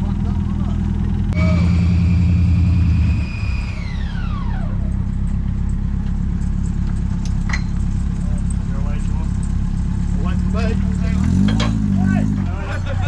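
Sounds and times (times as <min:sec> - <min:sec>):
off-road vehicle engine under load: 0:00.0 - 0:13.0
high engine whine: 0:00.9 - 0:13.0.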